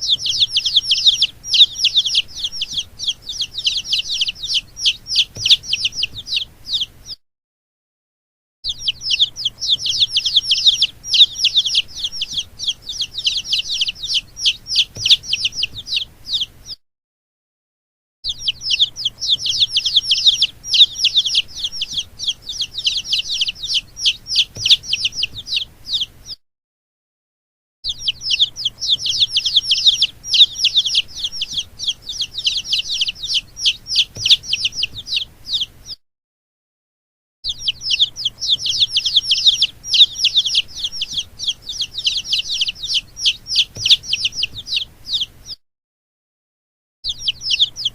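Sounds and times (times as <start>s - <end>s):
baby chicks peeping: 0.0s - 7.2s, 8.7s - 16.8s, 18.3s - 26.4s, 27.8s - 36.0s, 37.4s - 45.6s, 47.0s - 47.9s.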